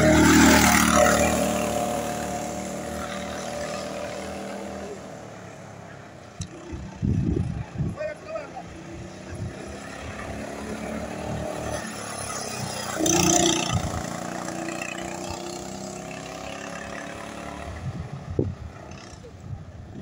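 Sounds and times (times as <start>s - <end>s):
go-kart engine running: 0.0s - 20.0s.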